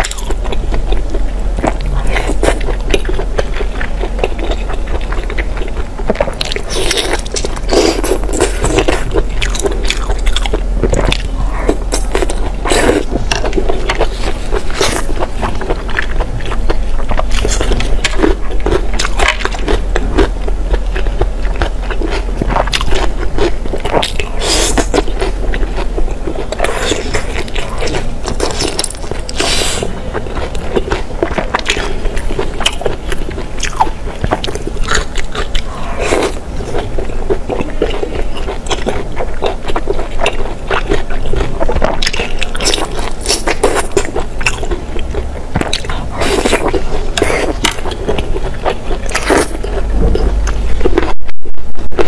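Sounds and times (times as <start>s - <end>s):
person chewing food: 0.0s - 52.0s.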